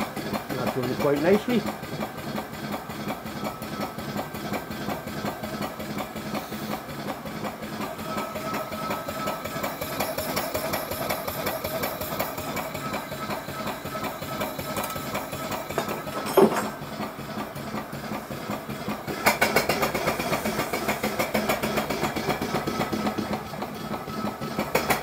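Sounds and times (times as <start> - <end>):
steam engine exhaust puffing: 0.0 - 25.0.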